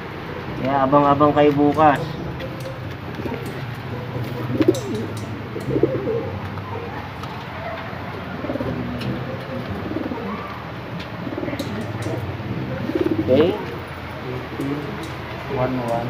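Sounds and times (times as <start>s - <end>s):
pigeons cooing: 1.9s - 16.0s.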